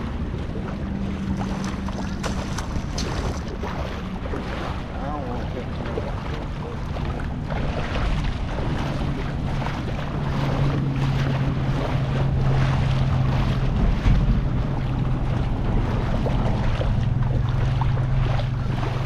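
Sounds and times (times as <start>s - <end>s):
low motor hum: 0.0s - 19.0s
wind buffeting microphone: 0.0s - 19.0s.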